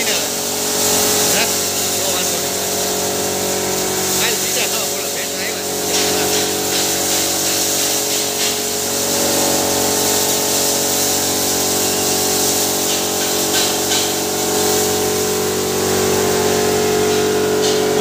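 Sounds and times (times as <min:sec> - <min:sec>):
hammer mill running: 0:00.0 - 0:18.0.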